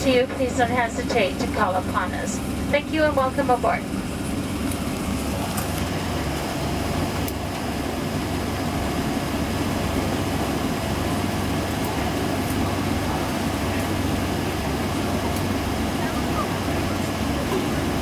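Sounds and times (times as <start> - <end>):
air conditioning drone: 0.0 - 18.0
low hum: 0.0 - 18.0.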